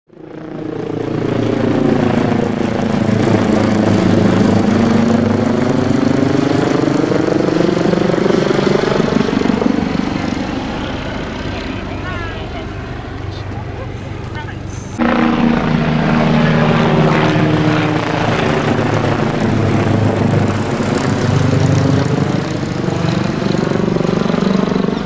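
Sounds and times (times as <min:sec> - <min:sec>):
helicopter flying overhead: 0:00.1 - 0:25.0.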